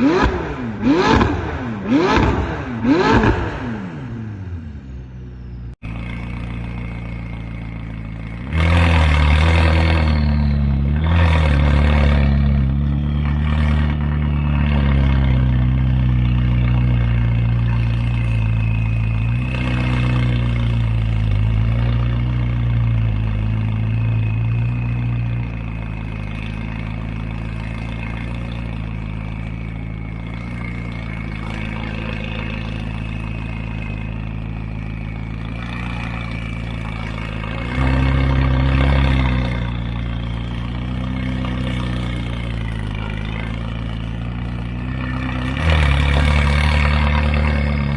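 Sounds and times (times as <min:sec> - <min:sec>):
car engine revving and idling: 0:00.0 - 0:47.9.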